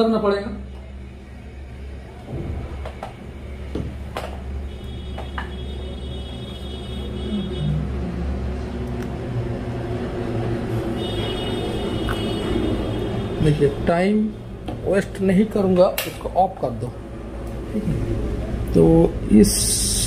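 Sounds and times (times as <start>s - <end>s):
low mechanical rumble: 0.6s - 20.0s.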